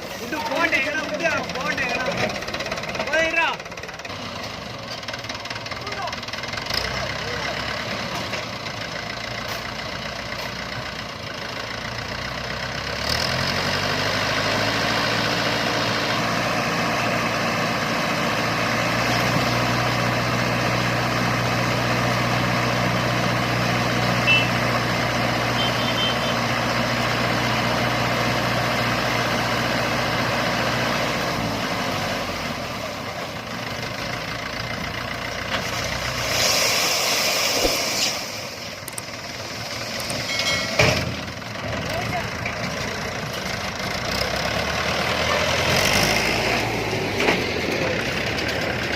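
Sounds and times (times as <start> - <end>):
diesel engine idling and revving: 0.0 - 48.9.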